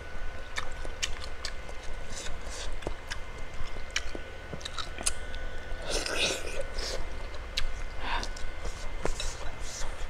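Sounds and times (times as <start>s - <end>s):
person chewing food: 0.4s - 10.0s.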